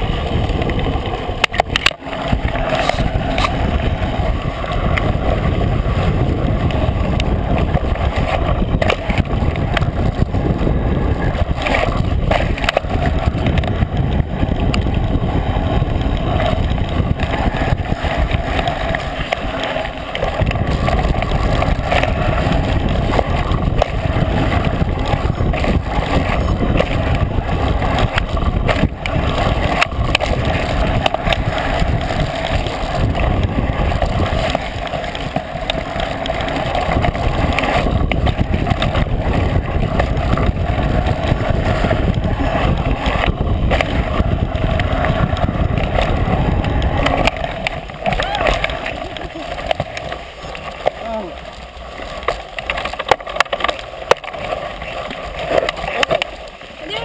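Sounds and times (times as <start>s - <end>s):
bike clicks and rattles: 0.0s - 57.0s
tyre noise on dirt trail: 0.0s - 57.0s
wind buffeting microphone: 0.0s - 57.0s.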